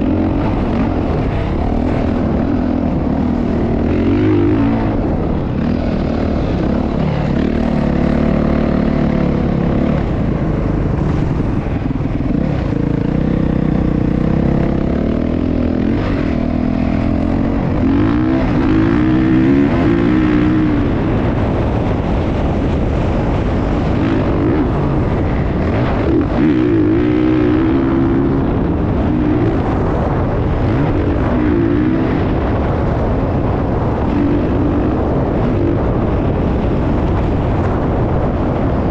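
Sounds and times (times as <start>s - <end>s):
motocross bike engine revving: 0.0s - 38.4s.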